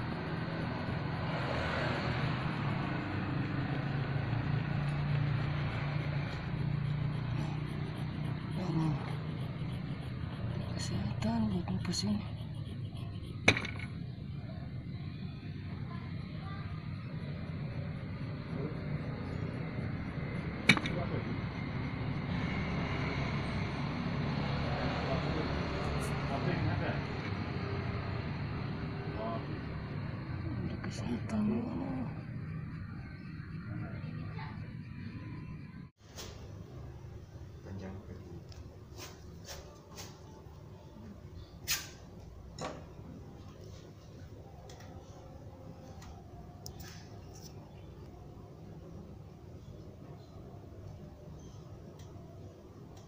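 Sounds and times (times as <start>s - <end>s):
road noise: 0.0s - 53.0s.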